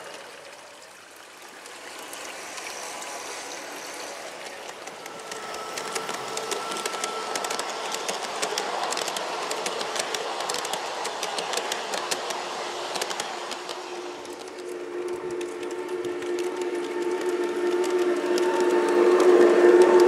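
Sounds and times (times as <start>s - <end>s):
model train wheels clicking: 1.4s - 20.0s.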